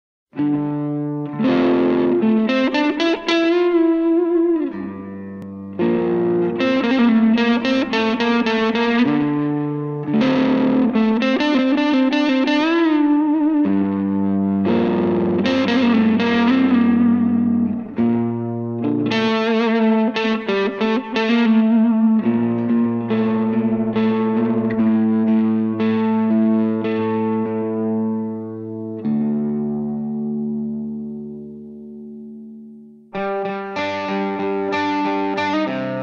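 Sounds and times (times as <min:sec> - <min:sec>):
distorted electric guitar: 0:00.3 - 0:36.0.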